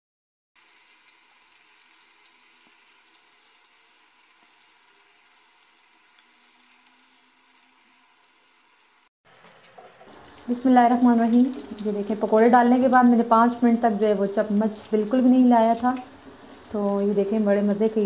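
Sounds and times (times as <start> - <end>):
batter deep-frying in hot oil: 0.6 - 18.0.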